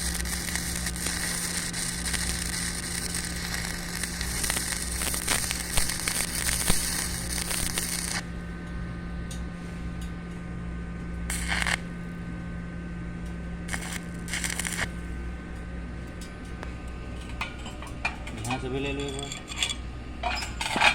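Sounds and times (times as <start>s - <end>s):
arc welding crackling: 0.0s - 8.8s, 11.0s - 12.1s, 13.2s - 20.9s
steady hum: 0.0s - 20.9s.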